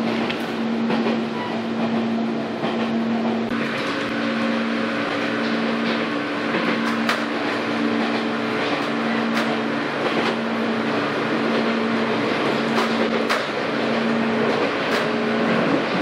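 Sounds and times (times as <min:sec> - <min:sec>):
electric train humming tone: 0:00.0 - 0:16.0
wheel and rail rumble: 0:00.0 - 0:16.0.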